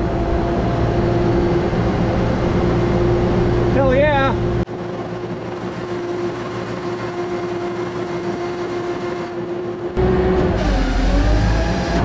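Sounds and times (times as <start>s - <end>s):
engine and hydraulic pump whine: 0.0s - 12.0s.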